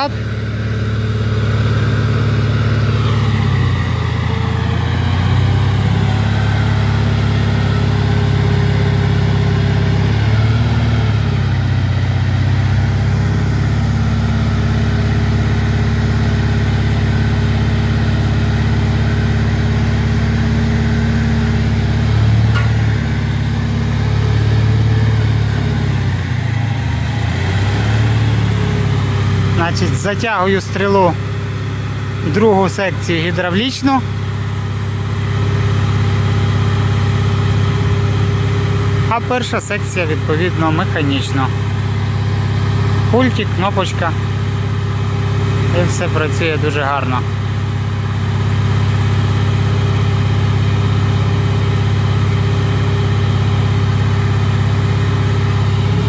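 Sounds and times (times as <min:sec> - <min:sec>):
crane engine running: 0:00.0 - 0:56.0.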